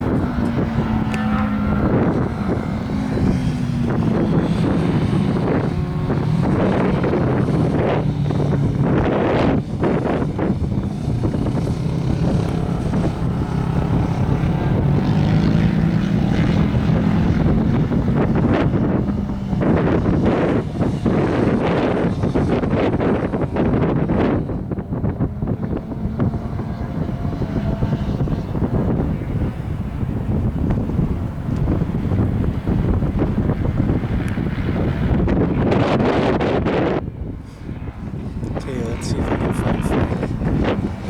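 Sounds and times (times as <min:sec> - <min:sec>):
motorcycle engine revving: 0:00.0 - 0:41.0
wind buffeting microphone: 0:00.0 - 0:41.0.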